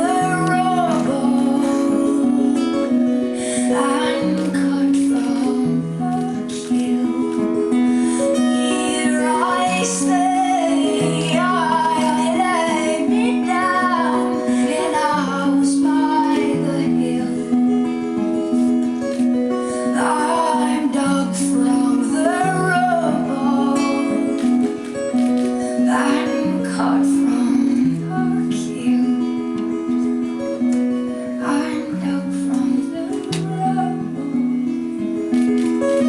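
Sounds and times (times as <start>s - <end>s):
woman singing slow melody: 0.0s - 18.8s, 19.6s - 35.1s
guitar accompaniment: 0.0s - 36.0s.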